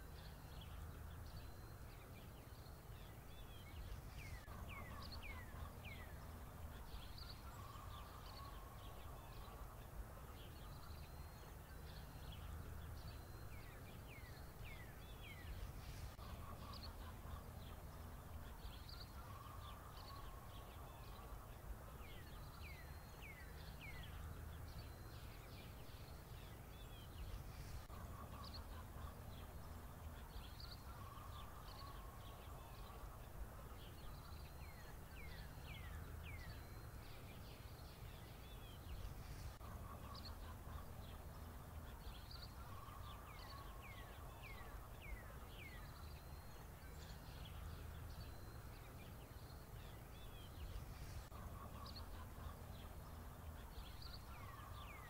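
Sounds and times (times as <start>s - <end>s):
faint bird chirps: 0.0s - 55.0s
steady low hum: 0.0s - 55.0s.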